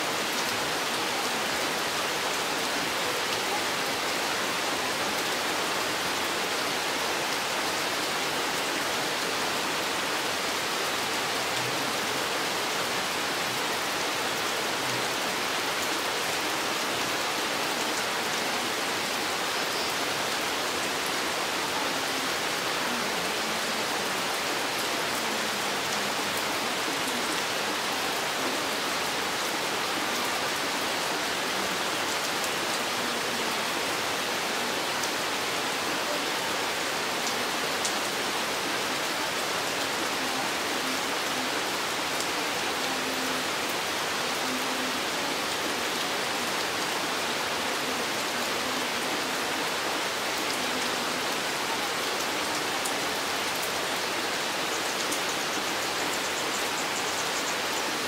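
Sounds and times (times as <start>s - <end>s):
steady rain in a forest: 0.0s - 58.0s.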